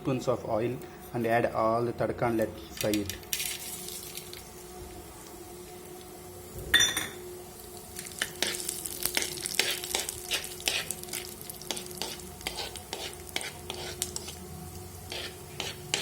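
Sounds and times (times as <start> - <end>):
spices sizzling in hot oil: 2.8 - 16.0.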